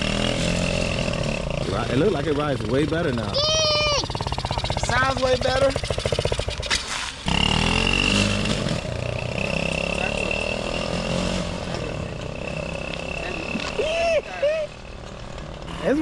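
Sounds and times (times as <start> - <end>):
small two-stroke engine revving: 0.0 - 16.0.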